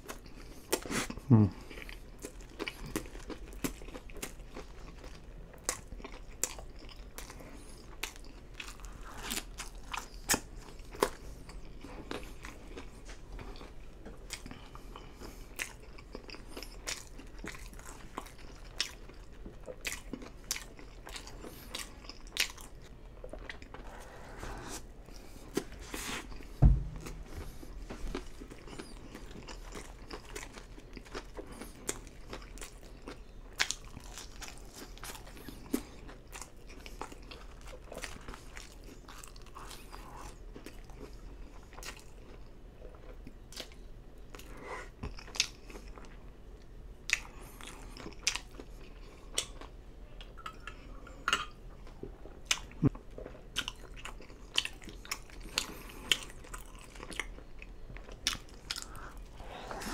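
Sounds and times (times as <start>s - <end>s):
chewing fries: 0.0s - 59.9s.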